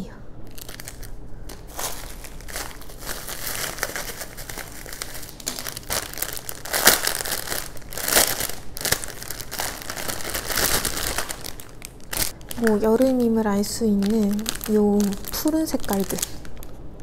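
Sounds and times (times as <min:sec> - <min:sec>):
plastic bags rustling: 0:00.5 - 0:17.0.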